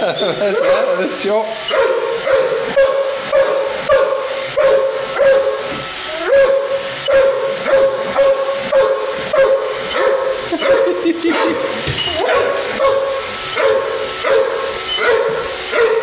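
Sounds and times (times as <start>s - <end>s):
dog whining: 0.1s - 16.0s.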